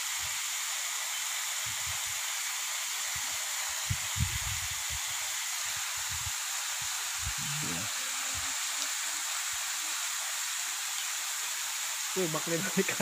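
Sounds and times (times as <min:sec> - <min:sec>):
waterfall hiss: 0:00.0 - 0:13.0.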